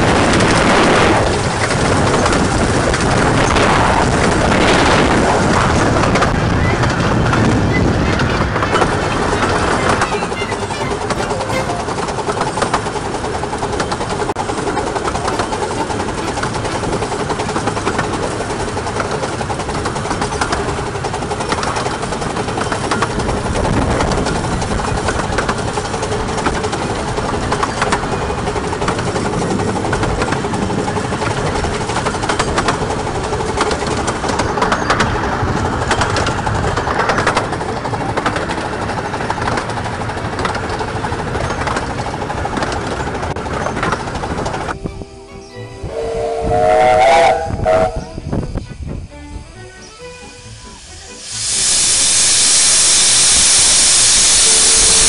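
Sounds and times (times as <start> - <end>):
carriage wheels rumbling on track: 0.0 - 46.0.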